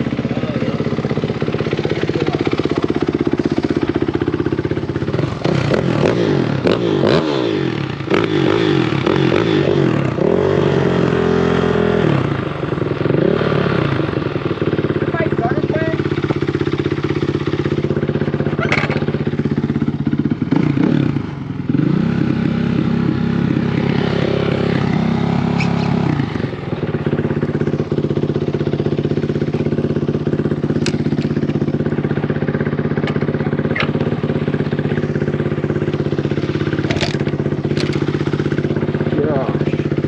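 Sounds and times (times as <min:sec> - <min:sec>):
off-road motorcycle engine revving: 0:00.0 - 0:40.0.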